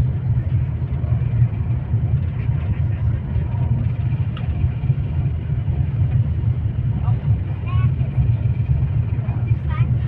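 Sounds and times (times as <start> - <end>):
vehicle rumble from inside: 0.0 - 10.0.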